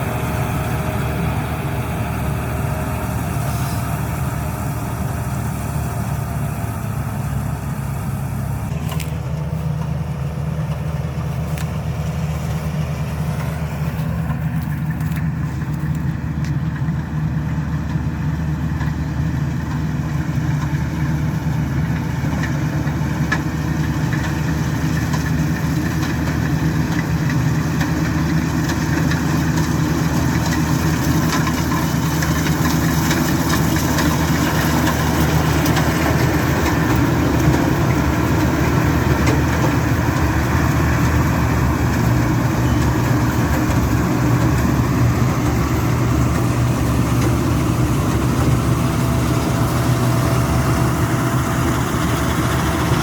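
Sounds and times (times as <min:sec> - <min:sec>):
combine harvester engine droning: 0:00.0 - 0:53.0.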